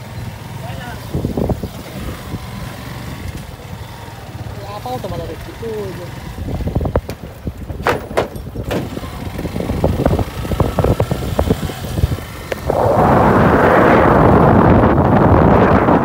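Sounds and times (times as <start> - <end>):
motorcycle engine rumble: 0.0 - 16.0
wind buffeting microphone: 0.2 - 16.0.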